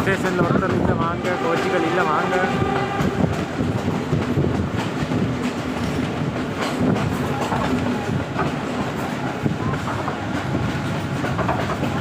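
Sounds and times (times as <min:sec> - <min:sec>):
rail joint clicks: 0:00.0 - 0:12.0
train wheels rumbling on rails: 0:00.0 - 0:12.0.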